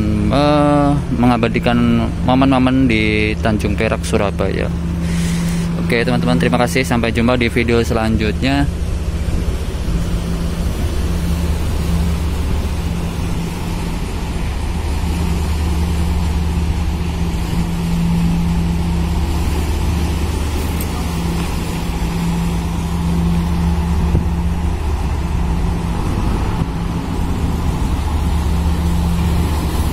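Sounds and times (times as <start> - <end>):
boat engine idling: 0.0 - 29.9.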